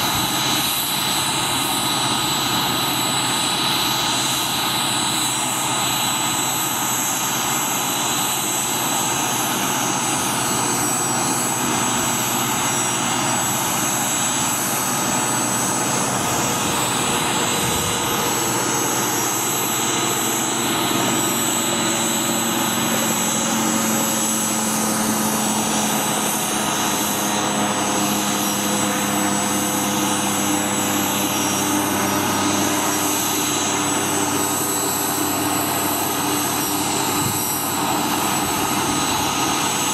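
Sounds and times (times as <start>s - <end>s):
helicopter turbine whine: 0.0s - 39.9s
low engine tone: 0.0s - 39.9s.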